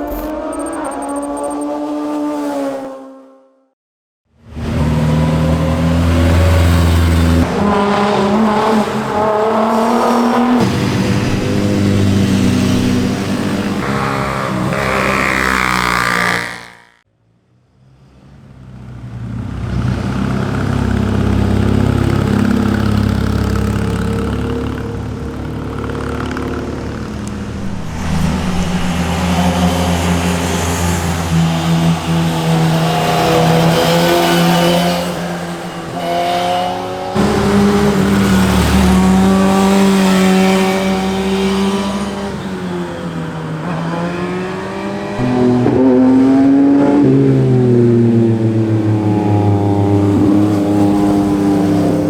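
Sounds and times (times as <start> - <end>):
motorcycles passing revving: 4.6 - 17.0, 19.2 - 52.0.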